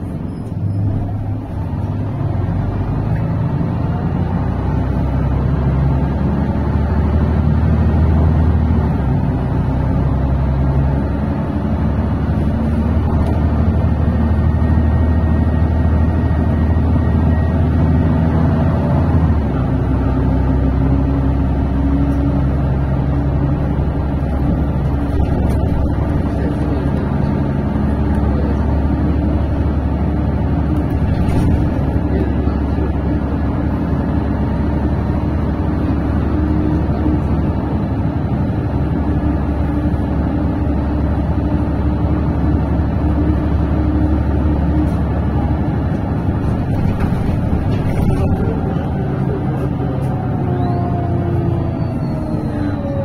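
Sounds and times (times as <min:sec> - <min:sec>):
diesel bus engine drone: 0:00.0 - 0:53.0
road noise: 0:00.0 - 0:53.0.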